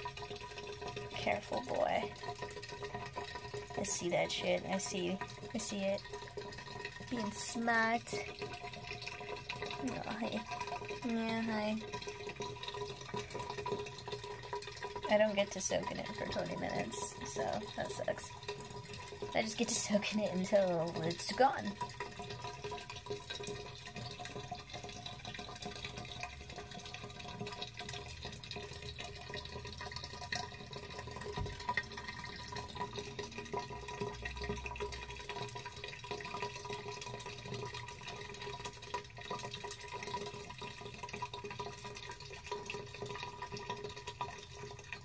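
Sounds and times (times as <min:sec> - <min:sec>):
water trickling and dripping: 0:00.0 - 0:45.0.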